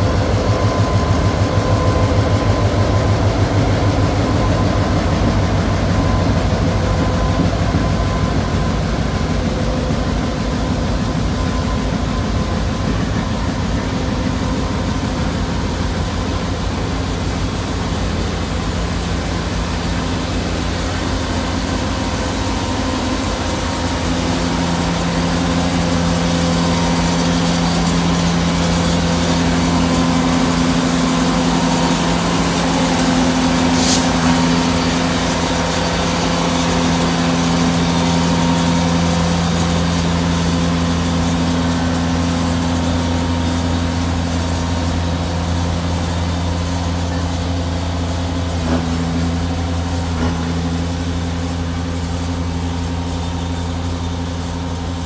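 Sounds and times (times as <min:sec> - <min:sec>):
diesel locomotive engines droning: 0:00.0 - 0:55.0
higher engine hum: 0:00.0 - 0:55.0.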